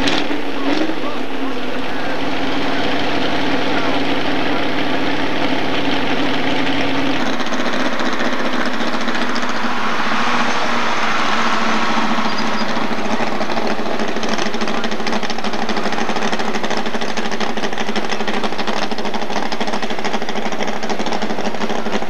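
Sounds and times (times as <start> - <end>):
truck engine running under load: 0.0 - 22.0.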